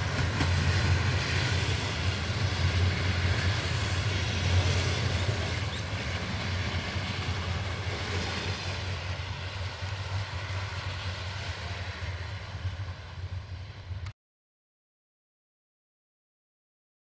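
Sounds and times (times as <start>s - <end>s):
passenger train rumbling: 0.0s - 14.1s.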